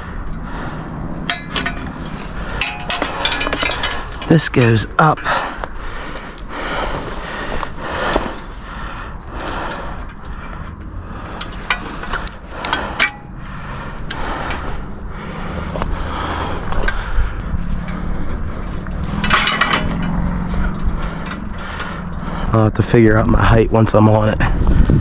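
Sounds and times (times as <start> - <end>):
metal frame clicking and rattling: 0.3 - 8.7, 9.6 - 22.6.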